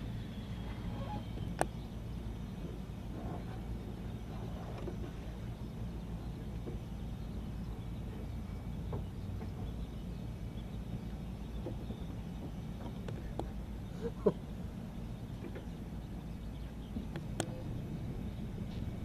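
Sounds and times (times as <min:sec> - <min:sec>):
low machinery rumble: 0:00.0 - 0:19.0.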